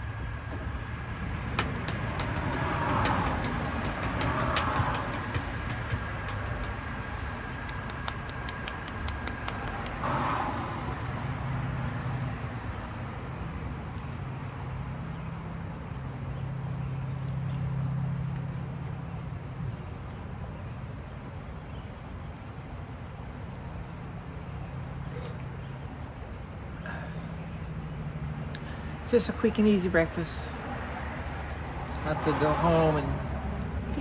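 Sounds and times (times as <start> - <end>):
vehicles passing on street: 0.0 - 34.0.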